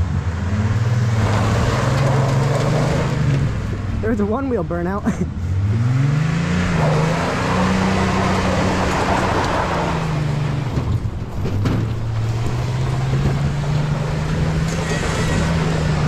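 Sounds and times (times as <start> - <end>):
spinning tyre rushing: 0.0 - 4.1, 5.3 - 16.0
car engine revving: 0.0 - 16.0.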